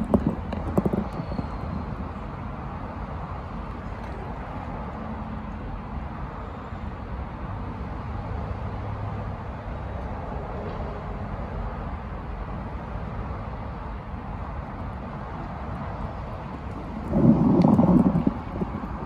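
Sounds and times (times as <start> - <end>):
urban background hum: 0.0 - 19.0.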